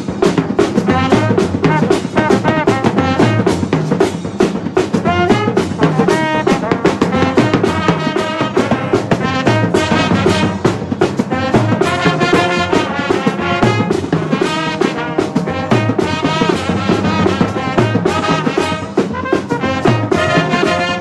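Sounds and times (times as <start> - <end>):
brass band playing: 0.0 - 21.0
steady drum beat: 0.0 - 21.0.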